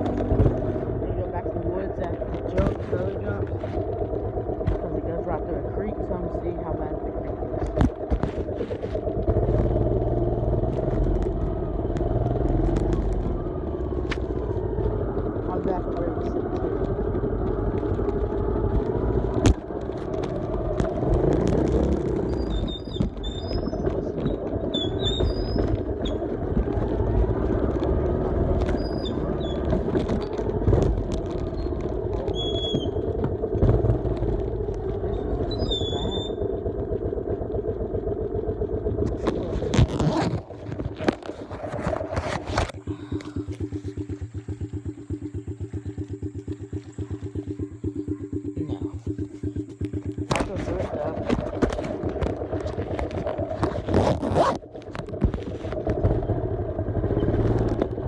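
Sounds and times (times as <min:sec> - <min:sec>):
dirt bike engine: 0:00.0 - 0:58.0.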